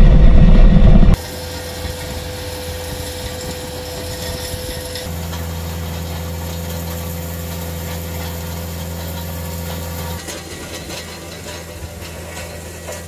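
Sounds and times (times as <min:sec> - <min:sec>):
diesel engine running: 0:00.0 - 0:13.0
rake dragging through gravel: 0:01.2 - 0:13.0.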